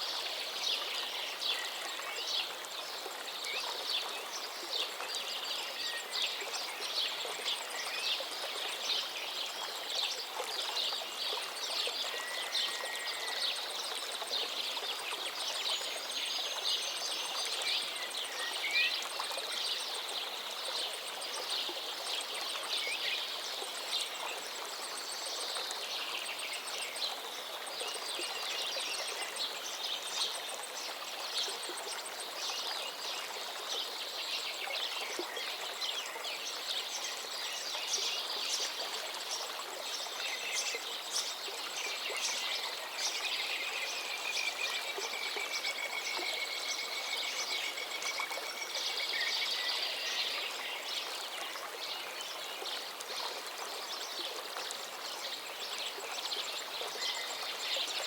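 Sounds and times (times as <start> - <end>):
forest river flowing: 0.0 - 58.0.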